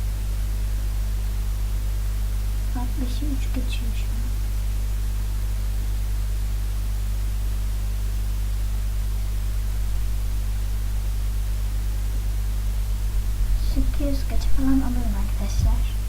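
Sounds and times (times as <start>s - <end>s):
even hiss: 0.0s - 16.0s
low electrical hum: 0.0s - 16.0s.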